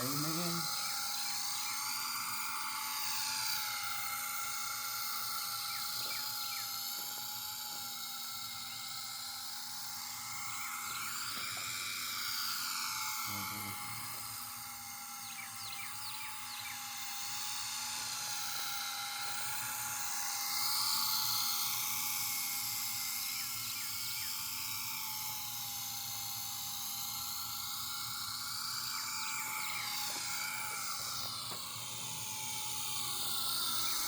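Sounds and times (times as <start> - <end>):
rc helicopter motor whine: 0.0 - 34.0.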